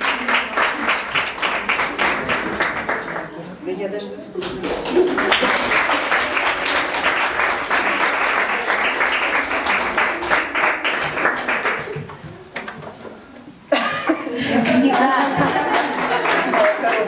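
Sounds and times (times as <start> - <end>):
audience applauding: 0.0 - 3.5, 4.4 - 13.0, 14.7 - 17.0.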